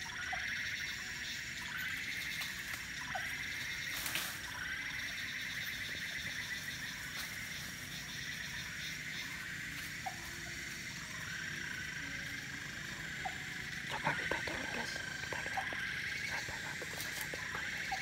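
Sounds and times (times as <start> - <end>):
crickets and insects trilling: 0.0 - 18.0.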